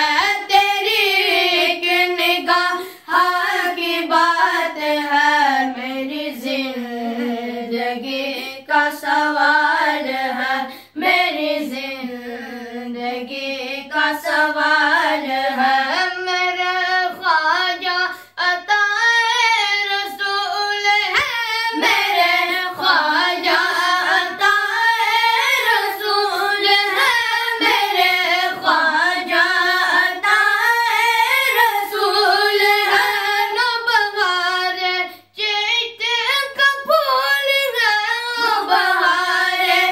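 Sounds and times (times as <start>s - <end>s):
boys singing devotional song: 0.0s - 39.9s.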